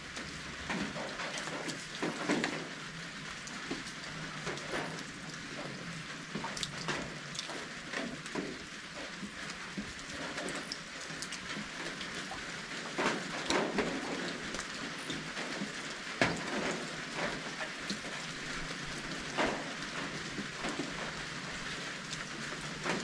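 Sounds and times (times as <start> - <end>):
steady hiss of rain: 0.0 - 23.0
drips ticking on surfaces: 3.3 - 23.0.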